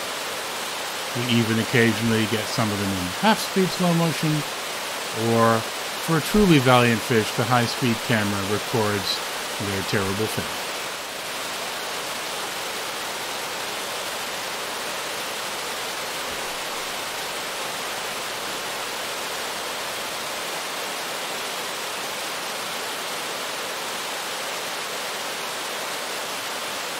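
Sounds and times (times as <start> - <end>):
whitewater rushing: 0.0 - 26.9.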